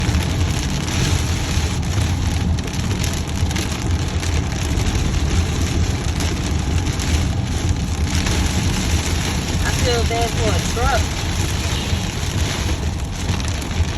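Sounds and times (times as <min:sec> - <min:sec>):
heavy rain on a car: 0:00.0 - 0:13.9
low road rumble: 0:00.0 - 0:13.9.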